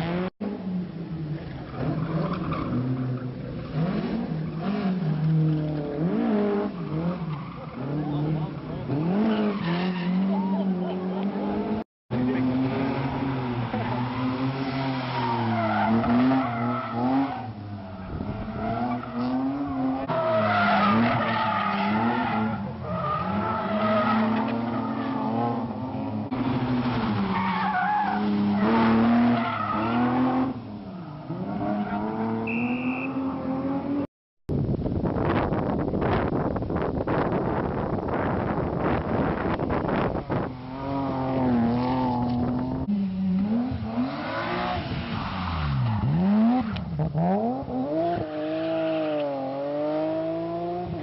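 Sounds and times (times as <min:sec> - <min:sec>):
rally car engines revving: 0:00.0 - 0:34.1, 0:35.3 - 0:51.0
tyres skidding on tarmac: 0:01.3 - 0:11.3, 0:12.2 - 0:34.0, 0:38.8 - 0:51.0.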